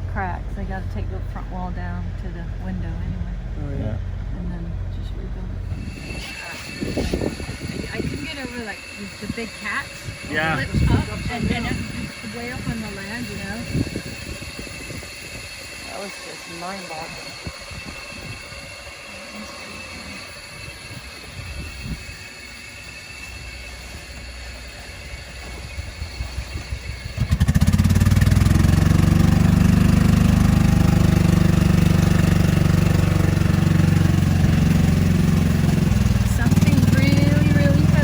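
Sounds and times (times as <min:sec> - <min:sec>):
vehicle engine starting and running: 0:00.0 - 0:18.2, 0:25.4 - 0:38.0.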